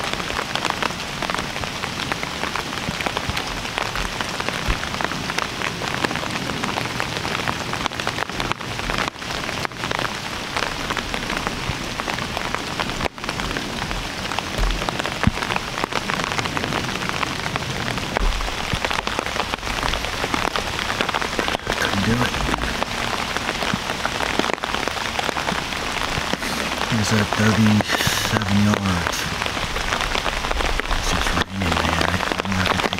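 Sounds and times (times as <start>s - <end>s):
rain drops tapping on umbrella: 0.0s - 32.9s.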